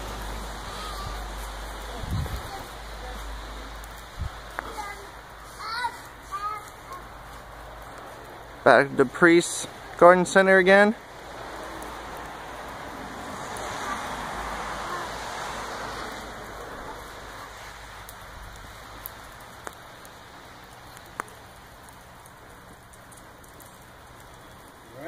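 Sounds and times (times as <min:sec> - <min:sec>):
snow falling on microphone: 0:00.0 - 0:25.0
wind hissing: 0:00.0 - 0:25.0.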